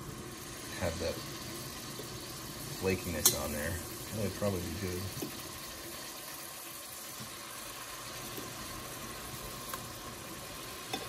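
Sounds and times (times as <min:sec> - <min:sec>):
fish frying in butter: 0:00.0 - 0:11.0.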